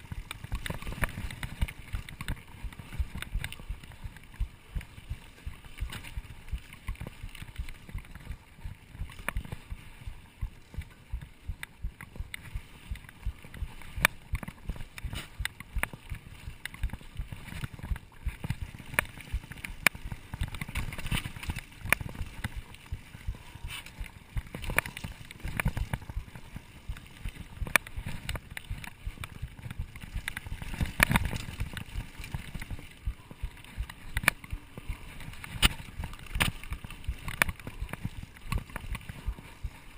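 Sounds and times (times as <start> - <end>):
bike knocking and rattling: 0.0 - 39.9
bike tyres rumbling on dirt: 0.0 - 39.9
wind on microphone: 0.0 - 39.9.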